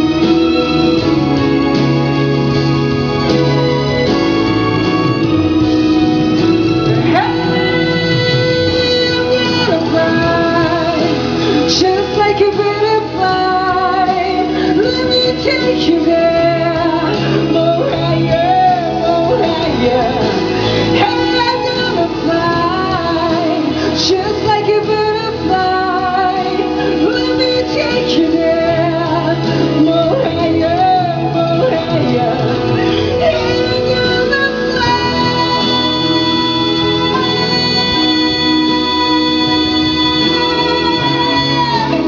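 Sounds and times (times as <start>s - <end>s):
instrumental accompaniment: 0.0s - 42.0s
person singing pop song: 0.0s - 42.0s.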